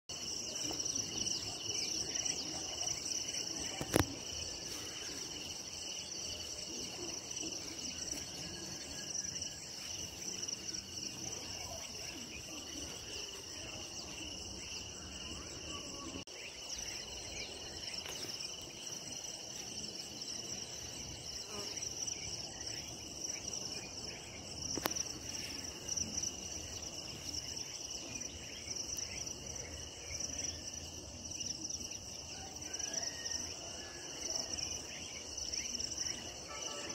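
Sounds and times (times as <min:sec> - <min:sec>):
crickets chirping: 0:00.1 - 0:36.9.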